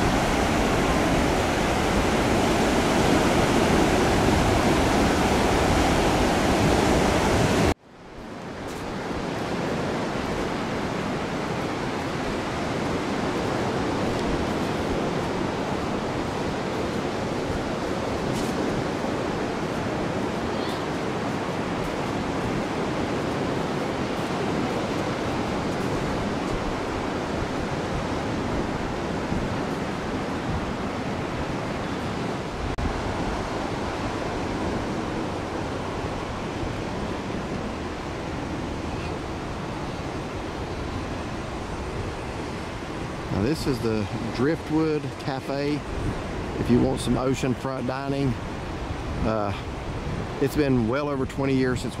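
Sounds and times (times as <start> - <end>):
ocean surf washing onto beach: 0.0 - 52.0.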